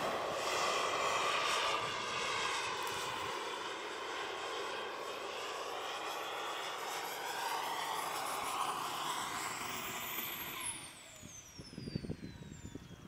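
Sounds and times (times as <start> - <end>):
model jet turbine flying past: 0.0 - 13.0.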